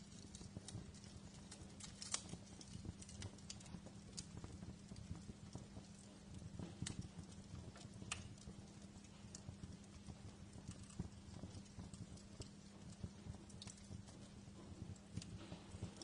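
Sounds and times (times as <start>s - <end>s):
low steady hum: 0.0s - 16.0s
wood fire crackling: 0.0s - 16.0s.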